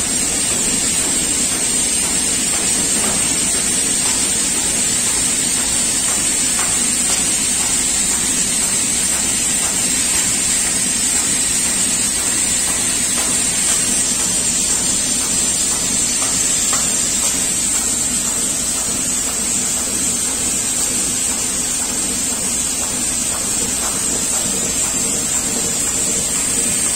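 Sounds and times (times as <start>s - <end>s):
laser cutting hiss: 0.0s - 26.9s
machine running noise: 0.0s - 26.9s.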